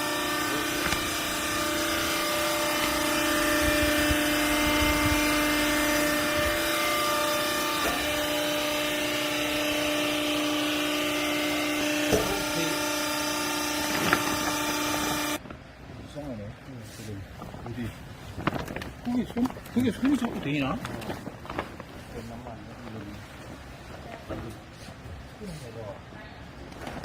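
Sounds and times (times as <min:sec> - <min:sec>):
hydraulic power unit hum: 0:00.0 - 0:26.8.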